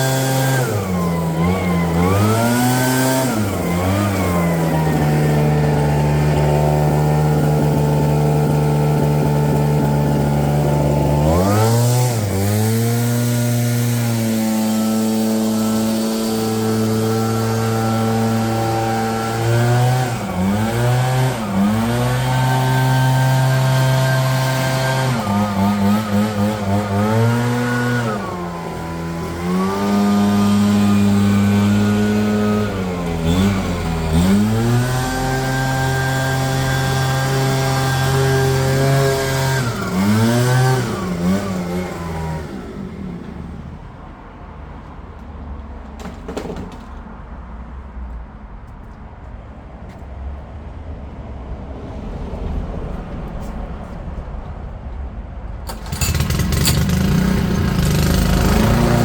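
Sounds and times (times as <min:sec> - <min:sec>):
small petrol engine running: 0:00.0 - 0:44.0, 0:55.7 - 0:59.0.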